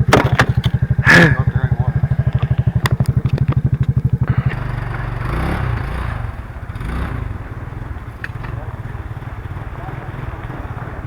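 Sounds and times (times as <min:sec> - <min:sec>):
atv engine idling and revving: 0:00.0 - 0:11.0.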